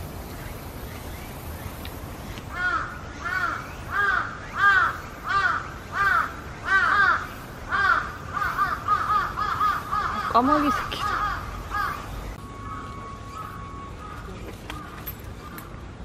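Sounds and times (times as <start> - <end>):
crow cawing: 2.5 - 15.8.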